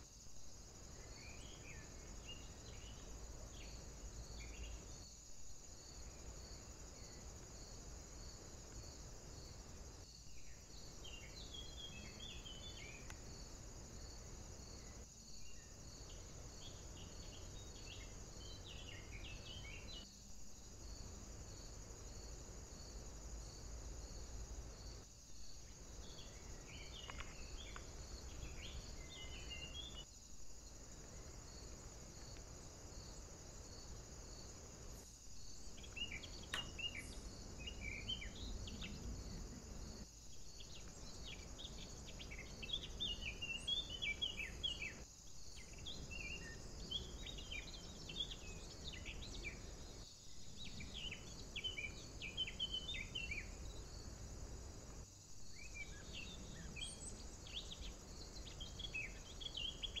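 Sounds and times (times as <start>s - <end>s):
small birds singing: 0.8s - 20.1s, 20.9s - 54.4s, 55.0s - 60.0s.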